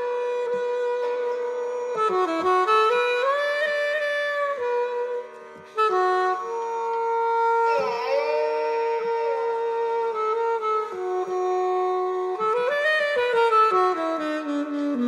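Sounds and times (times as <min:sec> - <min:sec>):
alto saxophone playing: 0:00.0 - 0:15.0.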